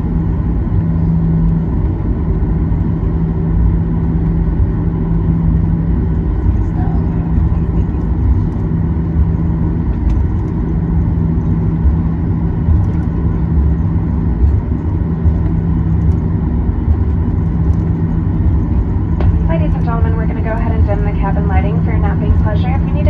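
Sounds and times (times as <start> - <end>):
aircraft cabin rumble: 0.0 - 23.0
steady whine: 0.0 - 23.0.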